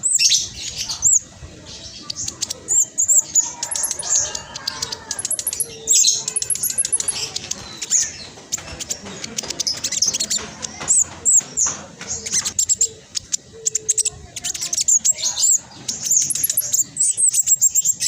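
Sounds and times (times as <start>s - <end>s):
bird twittering song: 0.0s - 18.0s.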